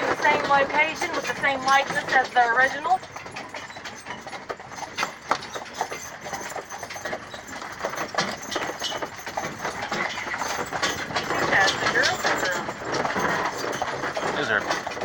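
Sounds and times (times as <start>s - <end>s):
horse hooves clip-clopping: 0.0s - 15.0s.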